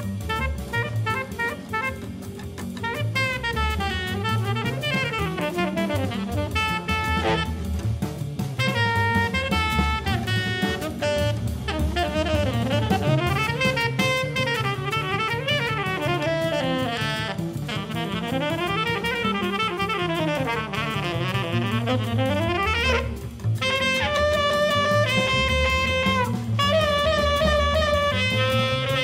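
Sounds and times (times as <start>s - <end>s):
tenor saxophone runs and held notes: 0.0s - 7.7s, 8.6s - 29.0s
busy drumming: 0.0s - 29.0s
walking bass line: 0.0s - 29.0s.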